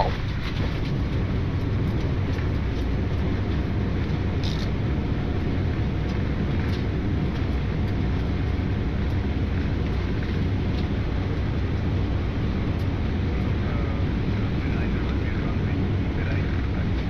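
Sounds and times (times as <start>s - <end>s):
jet engines in reverse thrust: 0.0s - 17.0s
wheels rumbling on runway: 0.0s - 17.0s.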